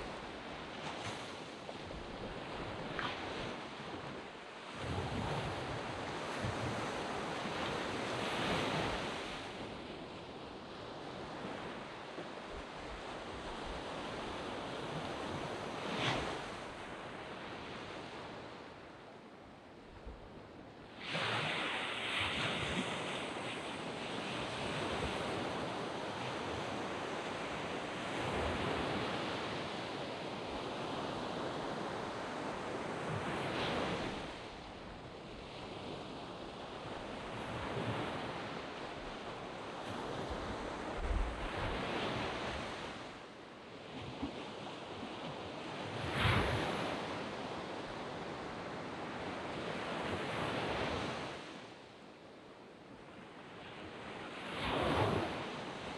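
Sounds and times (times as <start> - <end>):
waves breaking on sandy beach: 0.0 - 19.0, 20.4 - 52.1, 52.8 - 55.9.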